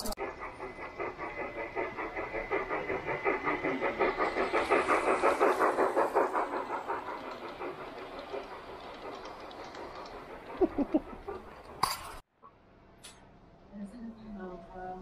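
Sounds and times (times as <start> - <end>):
model train wheels clicking: 0.0 - 12.3.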